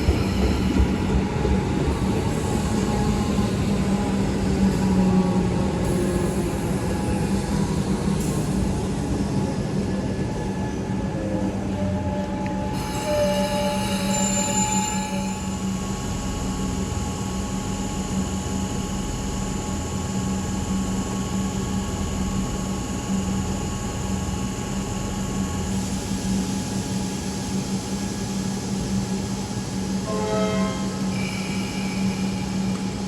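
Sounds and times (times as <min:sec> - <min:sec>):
train low hum: 0:00.0 - 0:33.0.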